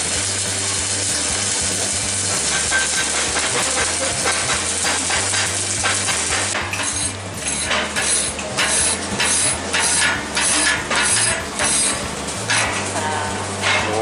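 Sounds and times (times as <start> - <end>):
welding arc crackling: 0.0 - 14.0.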